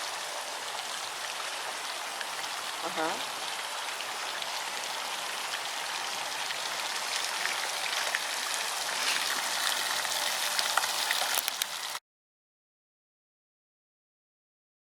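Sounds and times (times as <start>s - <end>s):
fountain water splashing: 0.0s - 12.0s
water patters: 0.0s - 12.0s.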